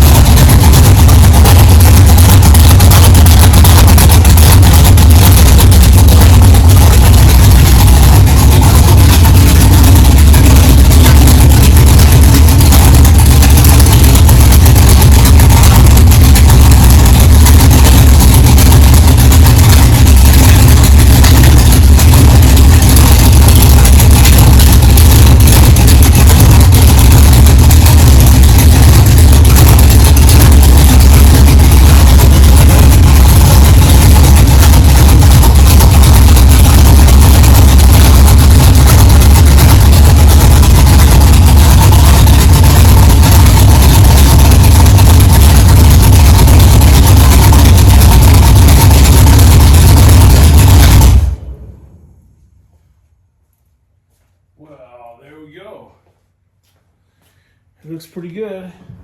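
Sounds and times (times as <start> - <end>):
car engine idling: 0.0 - 52.7.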